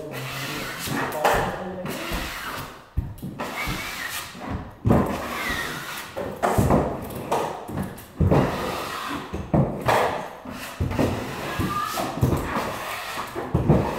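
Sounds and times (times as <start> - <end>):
tool scraping on drywall: 0.0 - 13.9.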